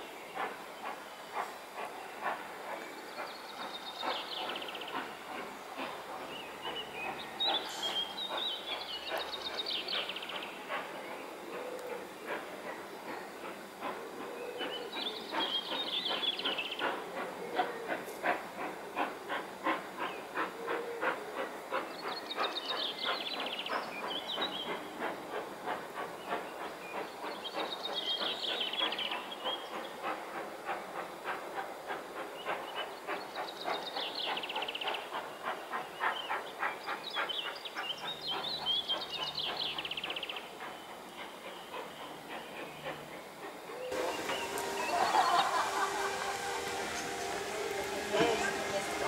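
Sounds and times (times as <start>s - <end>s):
steam locomotive exhaust beats: 0.0s - 49.0s.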